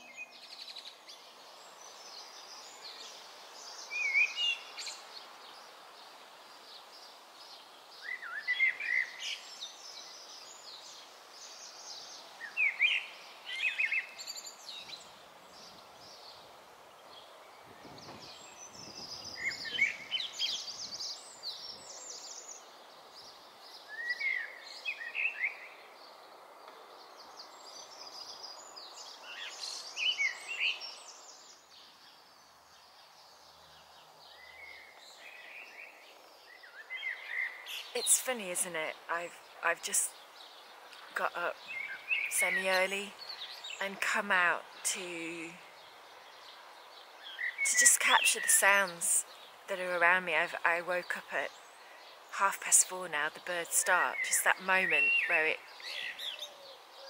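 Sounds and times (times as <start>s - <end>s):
blackbird singing: 0.0s - 5.7s, 8.0s - 16.4s, 17.1s - 26.2s, 27.2s - 57.0s
outdoor hiss: 0.0s - 53.0s.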